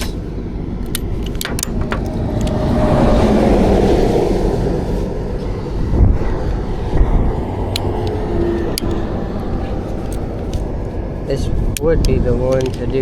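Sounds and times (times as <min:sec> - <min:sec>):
road rumble: 0:00.0 - 0:13.0
vehicle passing: 0:00.2 - 0:13.0.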